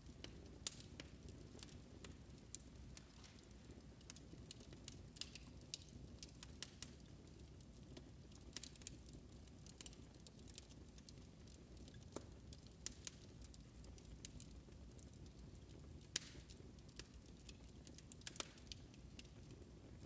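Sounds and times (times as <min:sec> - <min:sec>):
faint wood fire crackling: 0:00.0 - 0:20.0.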